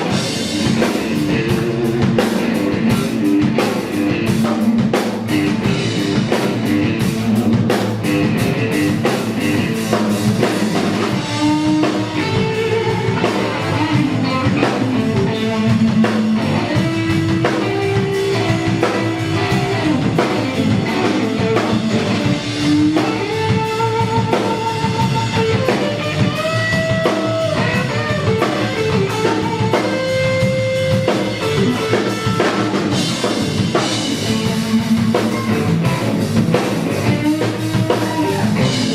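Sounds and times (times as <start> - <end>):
lead guitar bending notes: 0.0 - 38.9
rock band playing: 0.0 - 38.9.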